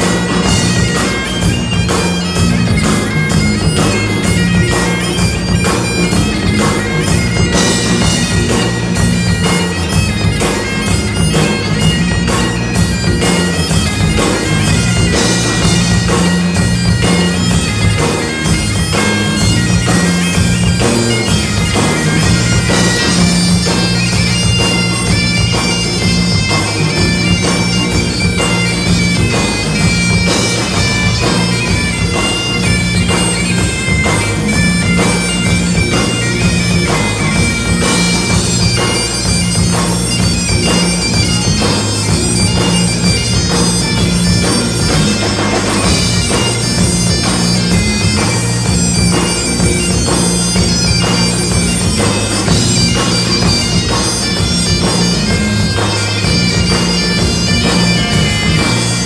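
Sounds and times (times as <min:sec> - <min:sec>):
bagpipes playing lively tune: 0:00.0 - 0:59.0
drums keeping steady beat: 0:00.0 - 0:59.0
electric guitar: 0:00.0 - 0:59.0
fiddle: 0:00.0 - 0:59.0.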